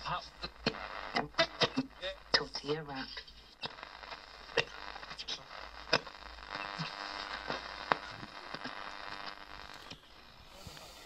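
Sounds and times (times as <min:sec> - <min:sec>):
faint radio broadcast: 0:00.0 - 0:11.0
radio crackle: 0:00.0 - 0:11.0.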